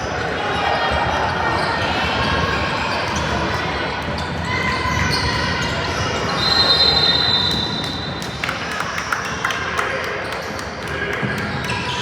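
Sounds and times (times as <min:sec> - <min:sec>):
court noise: 0:00.0 - 0:12.0.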